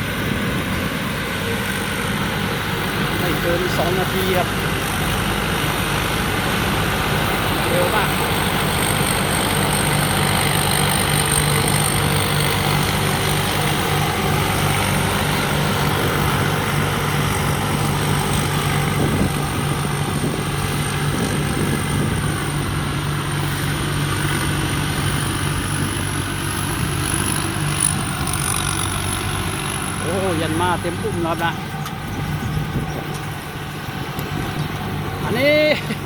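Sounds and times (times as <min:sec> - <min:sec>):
high-pitched whine: 0:00.0 - 0:35.8
combine harvester engine hum: 0:00.0 - 0:36.0.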